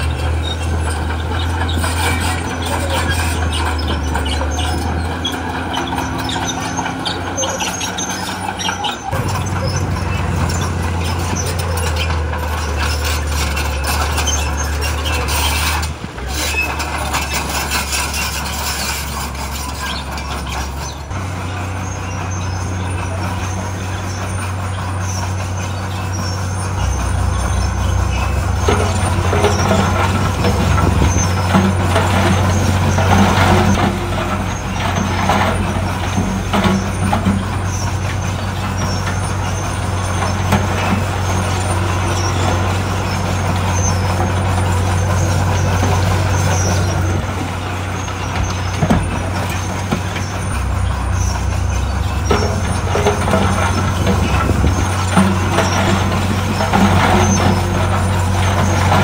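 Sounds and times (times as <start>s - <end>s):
diesel machinery engine running: 0.0s - 59.0s
rattling and scraping: 0.0s - 59.0s.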